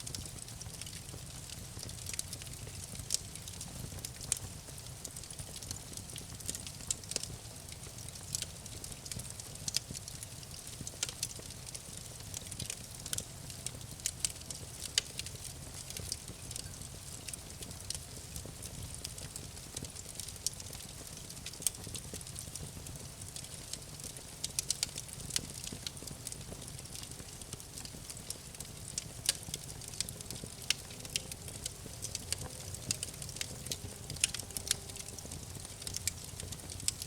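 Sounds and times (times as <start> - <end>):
campfire crackling: 0.0 - 37.0.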